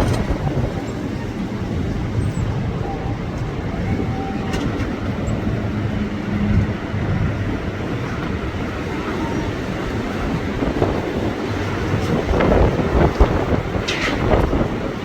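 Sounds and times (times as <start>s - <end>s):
storm wind rushing: 0.0s - 15.0s
wind buffeting microphone: 0.0s - 15.0s.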